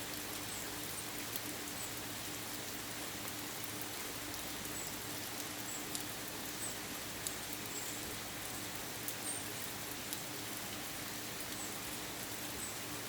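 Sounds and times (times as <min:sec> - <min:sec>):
steady rain shower: 0:00.0 - 0:13.0.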